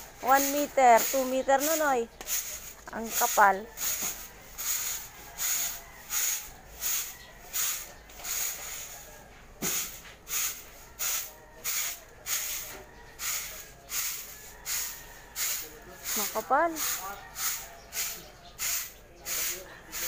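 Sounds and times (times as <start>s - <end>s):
broom sweeping ash on concrete: 0.0s - 20.0s.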